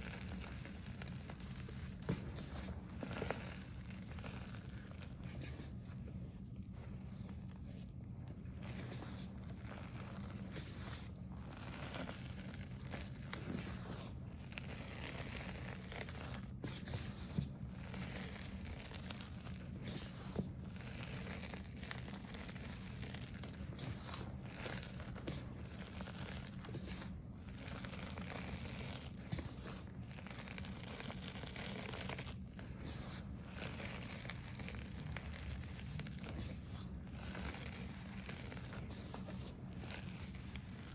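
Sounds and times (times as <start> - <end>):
chalk crunching and crumbling: 0.0 - 40.9.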